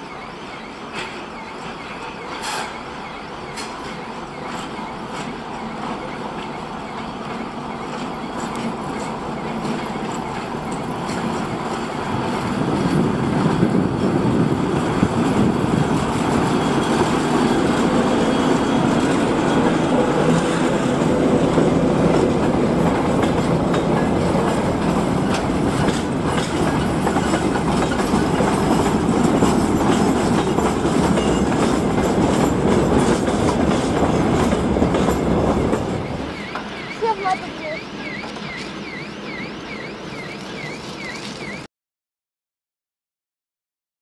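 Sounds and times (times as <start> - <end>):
locomotive passing: 0.0 - 41.7
wheels clacking over rail joints: 0.8 - 41.6
freight wagons rumbling: 0.9 - 41.6.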